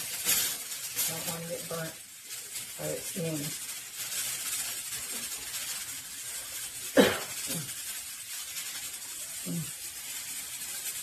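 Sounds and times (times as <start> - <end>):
pressure cooker steam hissing: 0.0 - 11.0.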